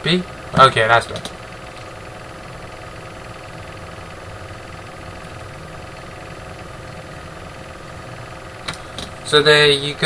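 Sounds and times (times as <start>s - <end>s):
computer fan hum: 0.0s - 10.0s.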